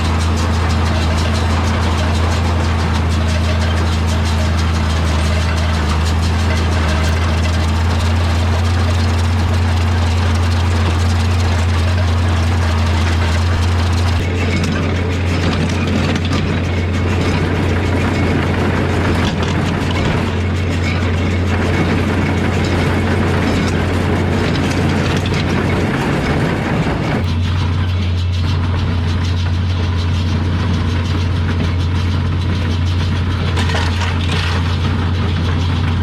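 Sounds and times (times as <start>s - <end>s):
baler mechanical clatter: 0.0s - 36.0s
tractor engine humming: 0.0s - 36.0s.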